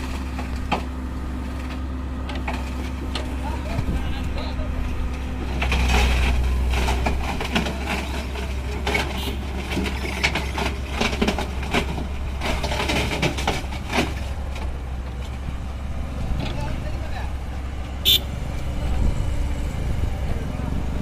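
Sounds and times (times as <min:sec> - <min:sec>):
heavy machine engine drone: 0:00.0 - 0:21.0.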